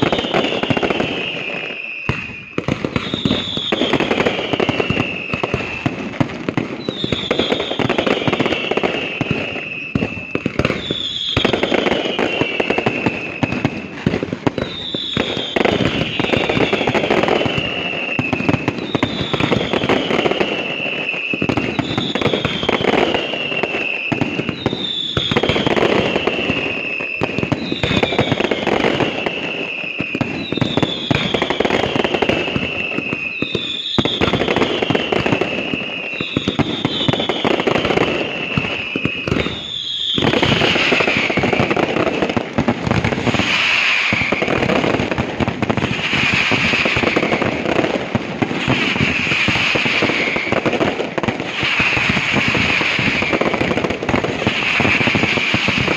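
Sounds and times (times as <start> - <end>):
falling firework whistle: 0.0 - 55.9
fireworks crackling and banging: 0.0 - 55.9.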